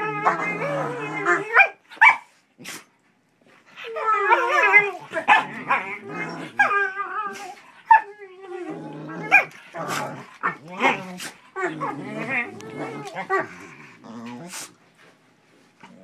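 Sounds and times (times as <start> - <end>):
dogs grumbling and whining: 0.0 - 2.9, 3.5 - 15.1, 15.7 - 16.0.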